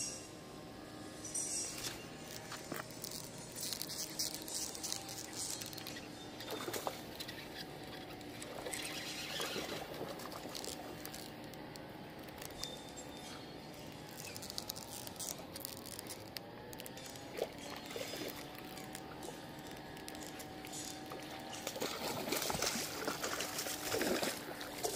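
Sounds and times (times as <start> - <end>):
fishing reel whirring: 1.0 - 24.9.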